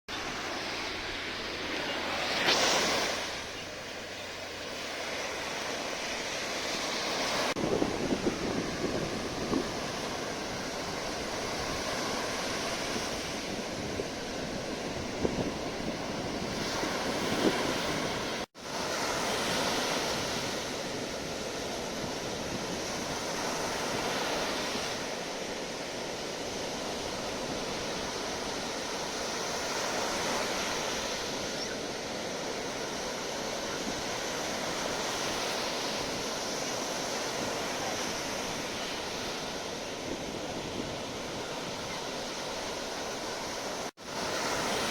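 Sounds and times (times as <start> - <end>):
sea waves breaking: 0.1 - 44.9.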